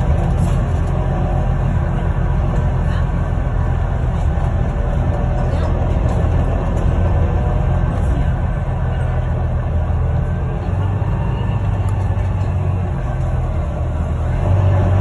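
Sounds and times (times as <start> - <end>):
bus engine droning: 0.0 - 15.0
road noise: 0.0 - 15.0.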